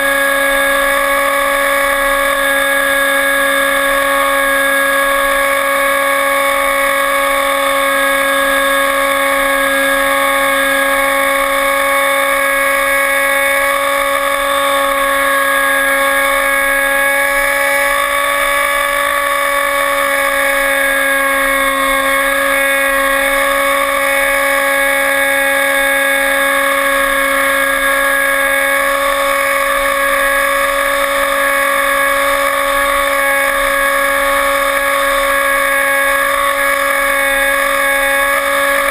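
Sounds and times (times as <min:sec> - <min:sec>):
model airplane motor whine: 0:00.0 - 0:38.9.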